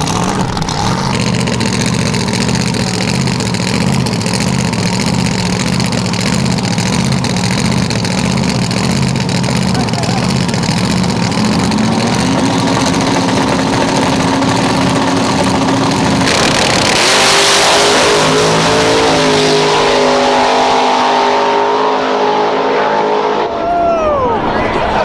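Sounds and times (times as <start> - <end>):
drag racing car engines: 0.0 - 25.0.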